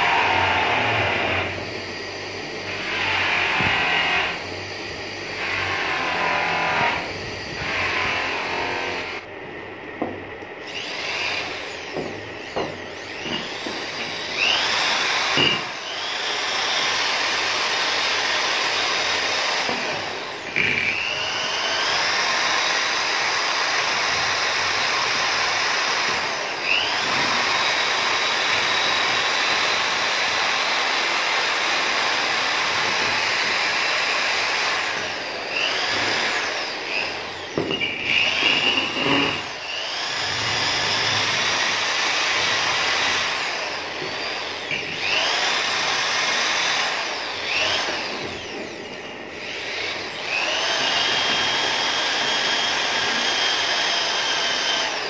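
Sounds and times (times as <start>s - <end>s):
electric drill whining: 0.0s - 55.0s.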